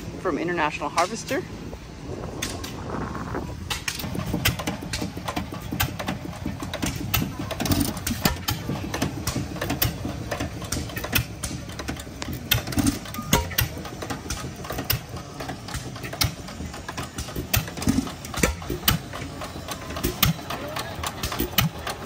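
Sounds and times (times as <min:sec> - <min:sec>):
engine rumbling with pops: 0:00.0 - 0:22.0.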